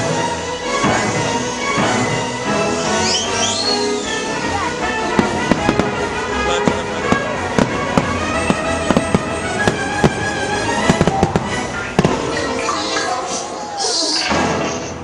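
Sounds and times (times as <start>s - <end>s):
music over loudspeakers: 0.0s - 13.7s
fireworks bursting: 2.8s - 15.0s.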